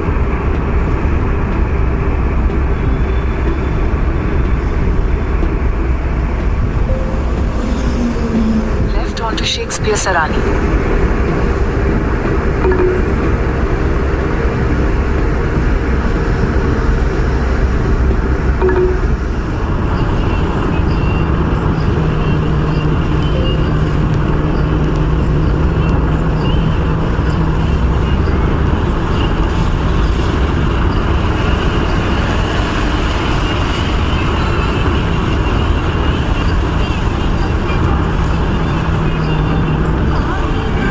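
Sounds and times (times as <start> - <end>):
car road and tyre noise: 0.0 - 40.9
low engine hum: 0.0 - 40.9.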